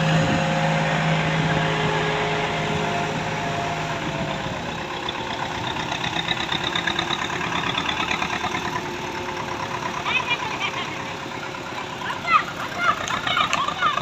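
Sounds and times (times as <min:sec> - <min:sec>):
diesel digger engine running: 0:00.0 - 0:14.0.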